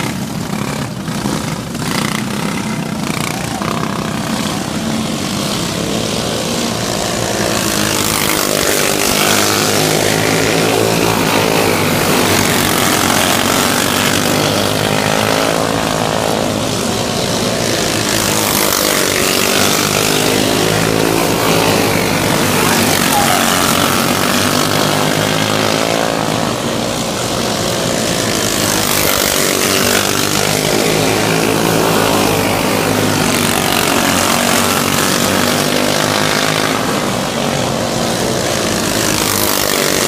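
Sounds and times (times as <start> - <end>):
kart engine revving: 0.0 - 40.0.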